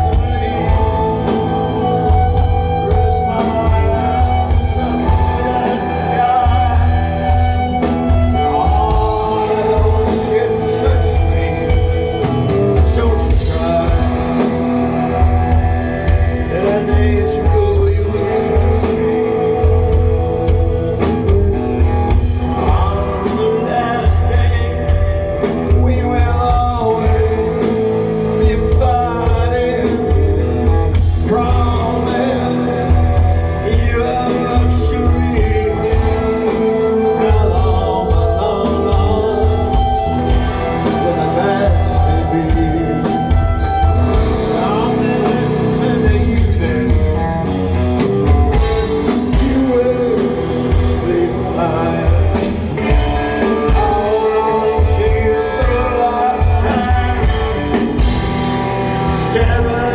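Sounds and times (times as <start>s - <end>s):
live rock band playing: 0.0s - 59.9s
man singing: 0.0s - 59.9s.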